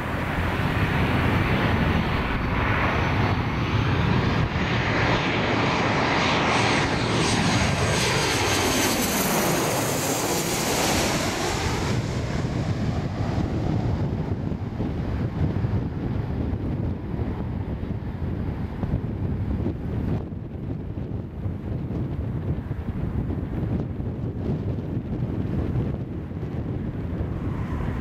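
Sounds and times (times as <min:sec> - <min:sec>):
jet plane passing overhead: 0:00.0 - 0:28.0.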